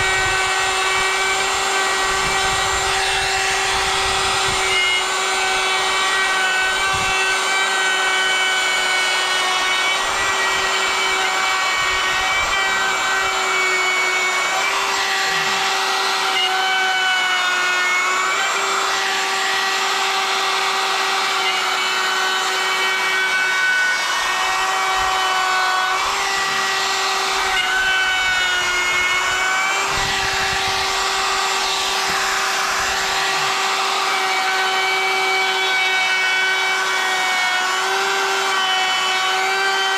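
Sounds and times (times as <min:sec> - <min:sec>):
router bit cutting wood: 0:00.0 - 0:39.9
router motor whining: 0:00.0 - 0:39.9.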